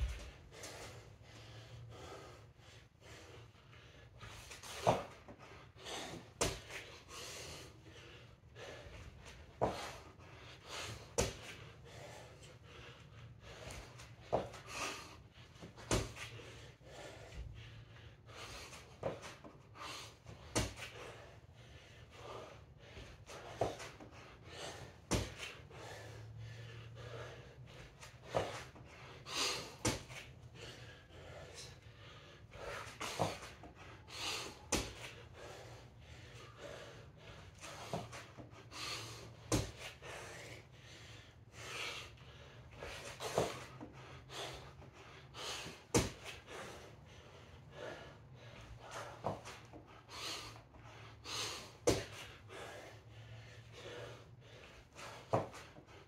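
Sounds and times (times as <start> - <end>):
man breathing hard: 0.0 - 56.0.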